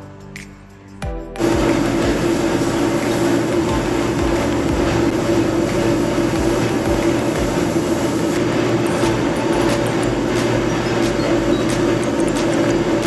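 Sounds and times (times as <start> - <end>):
machine humming and rushing: 1.4 - 13.0.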